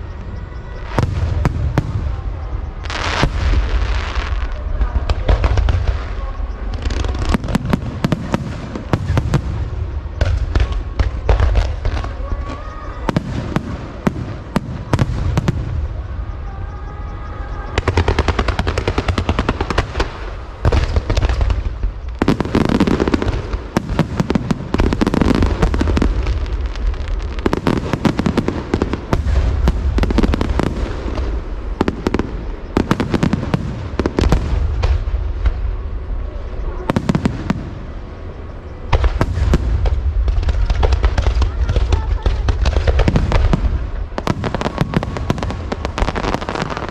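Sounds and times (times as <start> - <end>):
firework crackling reports: 0.0 - 46.9
firework low booms: 0.0 - 46.9.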